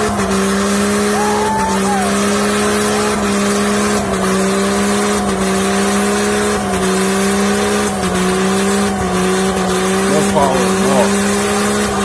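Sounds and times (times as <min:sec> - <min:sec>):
spinning tyres hissing: 0:00.0 - 0:12.0
truck engine revving high: 0:00.0 - 0:12.0.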